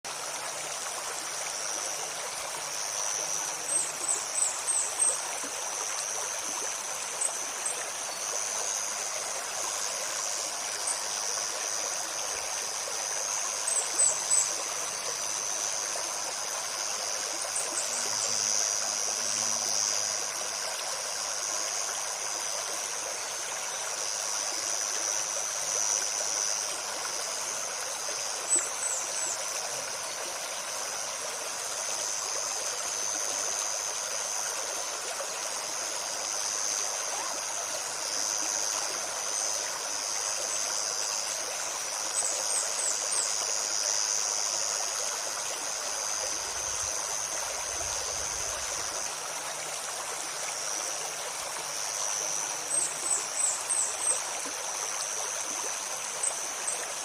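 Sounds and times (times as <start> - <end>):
stream flowing over stones: 0.0 - 57.0
high insect drone: 0.1 - 57.0.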